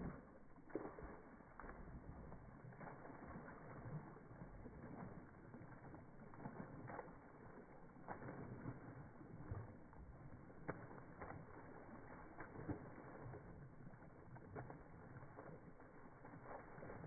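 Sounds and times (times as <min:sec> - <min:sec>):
dog splashing in water: 0:00.0 - 0:17.0.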